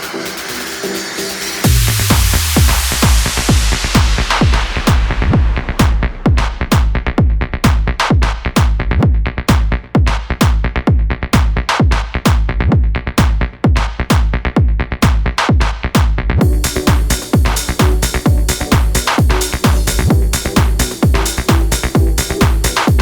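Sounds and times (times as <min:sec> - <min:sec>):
electronic dance music: 0:00.0 - 0:10.7, 0:15.0 - 0:23.0
kick drum beat: 0:01.6 - 0:23.0.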